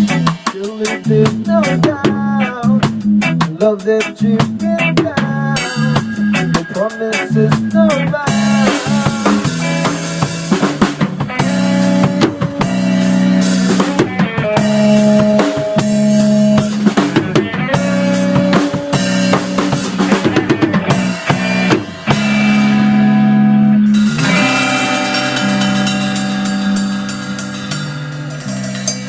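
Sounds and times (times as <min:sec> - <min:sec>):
drum kit: 0:00.0 - 0:29.0
sustained bass and chord notes: 0:00.0 - 0:29.0.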